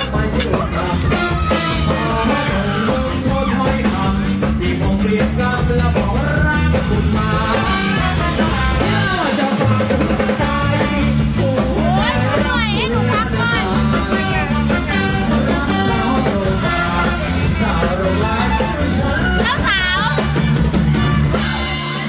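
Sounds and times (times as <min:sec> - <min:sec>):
pop dance music with singing: 0:00.0 - 0:21.3.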